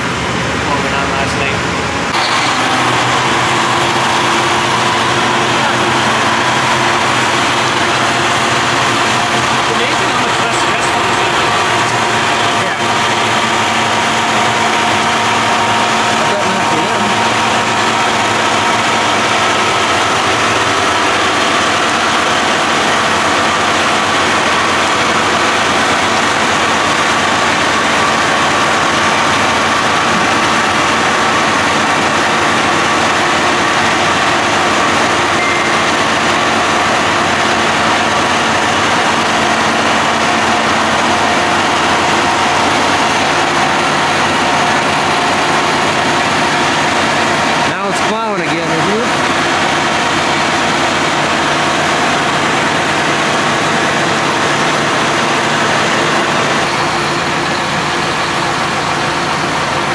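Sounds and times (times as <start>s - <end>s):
constant whine: 0.0s - 59.9s
tractor diesel engine running: 0.0s - 59.9s.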